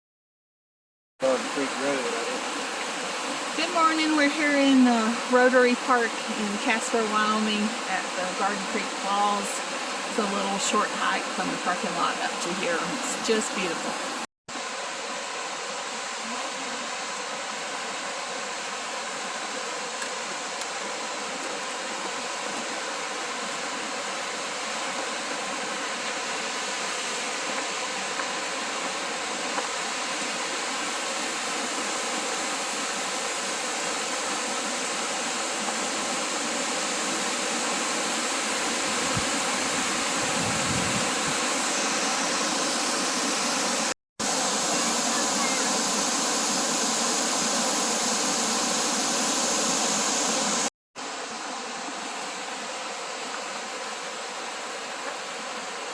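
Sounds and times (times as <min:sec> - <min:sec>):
waterfall rushing: 0:01.2 - 0:55.9.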